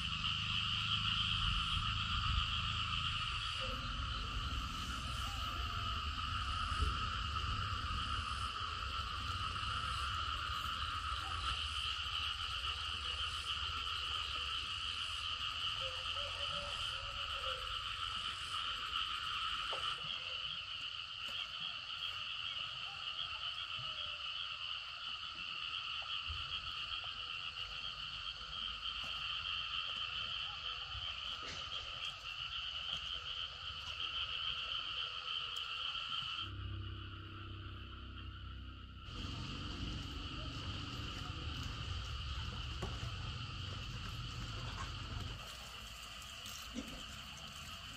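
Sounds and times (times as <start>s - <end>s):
frogs chorus trilling: 0.0s - 47.9s.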